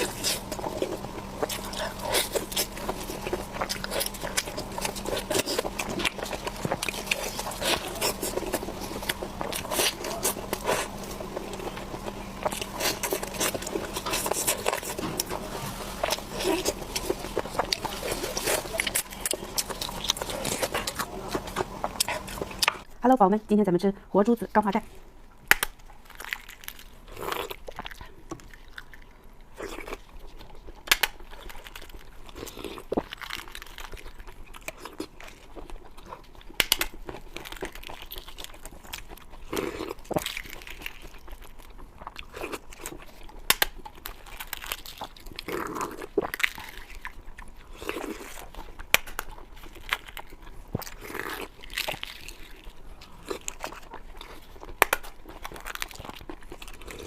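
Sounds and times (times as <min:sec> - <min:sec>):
biting and chewing with crunches: 0:00.0 - 0:22.9, 0:25.0 - 0:57.0.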